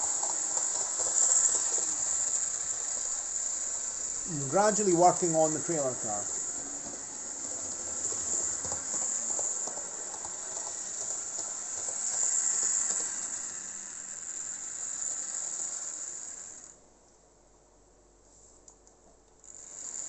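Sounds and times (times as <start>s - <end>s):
model train motor hissing: 0.0s - 16.8s, 19.4s - 20.0s
wheels clicking on track: 0.0s - 16.8s.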